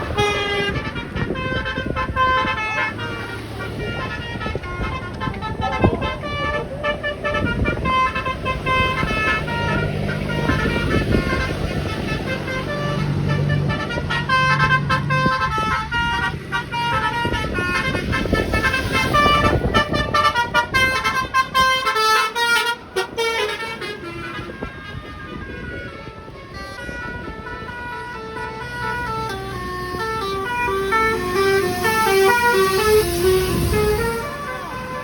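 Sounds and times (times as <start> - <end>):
multi-tone bus horns: 0.0 - 35.0.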